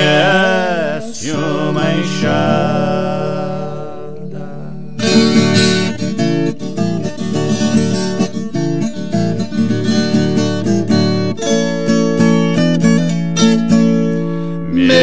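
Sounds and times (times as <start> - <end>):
acoustic guitars strumming and picking: 0.0 - 15.0.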